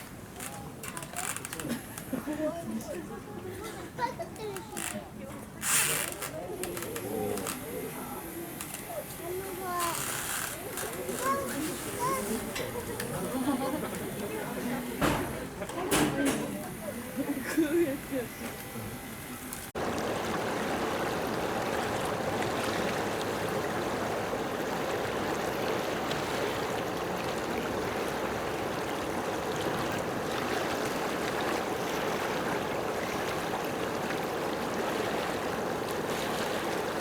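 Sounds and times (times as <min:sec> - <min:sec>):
running water rushing: 0:00.0 - 0:37.0.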